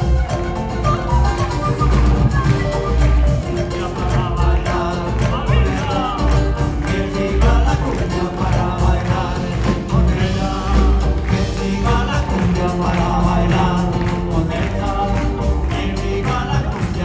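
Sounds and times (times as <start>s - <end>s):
bass beat: 0.0s - 17.0s
live band playing: 0.0s - 17.0s
people singing: 0.0s - 17.0s.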